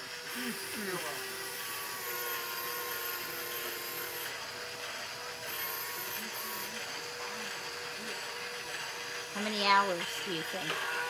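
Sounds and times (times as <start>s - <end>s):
small electric motor whining: 0.0s - 11.0s.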